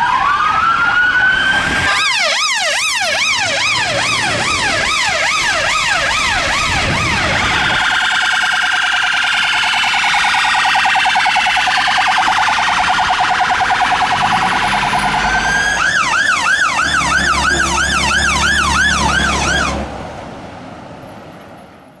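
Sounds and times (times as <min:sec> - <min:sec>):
fire engine siren: 0:00.0 - 0:20.0.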